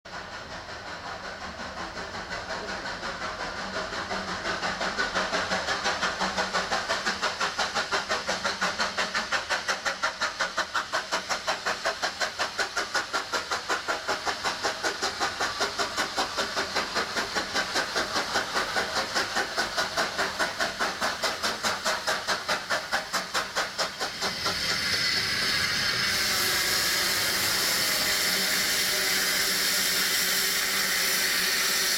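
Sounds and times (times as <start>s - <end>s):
loud steady steam hiss: 0.1s - 31.9s
steam locomotive exhaust beats: 0.1s - 31.9s.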